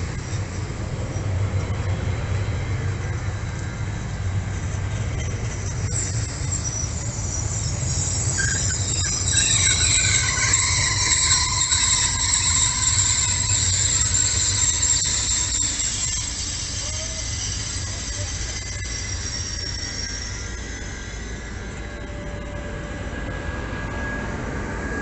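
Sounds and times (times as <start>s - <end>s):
train low rumble: 0.0s - 25.0s
train wheels squealing: 0.0s - 25.0s.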